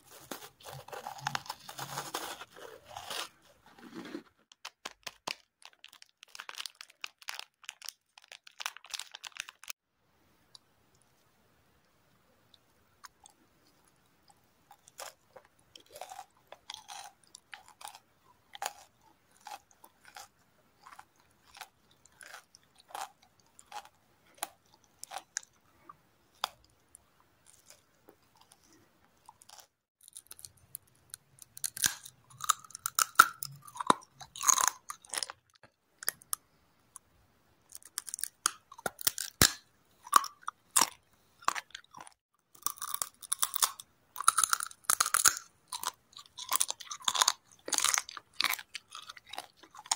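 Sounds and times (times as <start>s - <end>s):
crunchy chewing of cereal bar: 0.0s - 9.8s, 13.0s - 36.4s, 37.7s - 49.9s.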